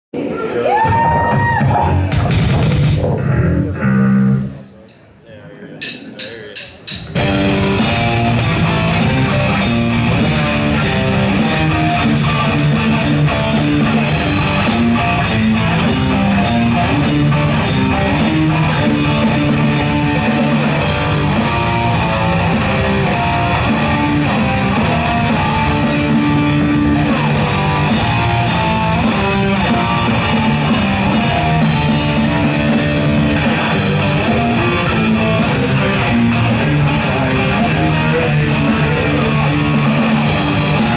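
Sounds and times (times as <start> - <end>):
drums: 0.2 - 5.0, 5.8 - 40.9
electric guitars: 0.6 - 4.7, 7.0 - 40.9
bass guitar: 0.6 - 4.9, 6.7 - 40.9.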